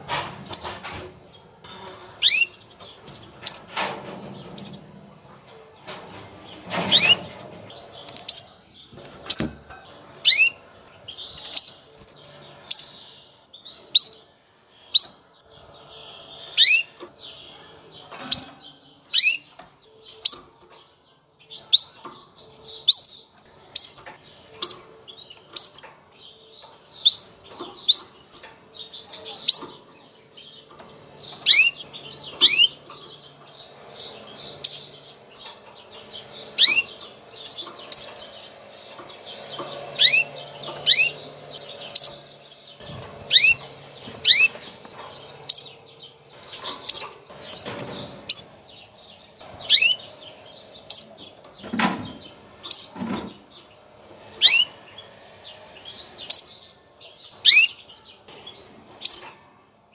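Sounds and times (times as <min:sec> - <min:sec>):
canary chirping: 0:00.0 - 0:59.9.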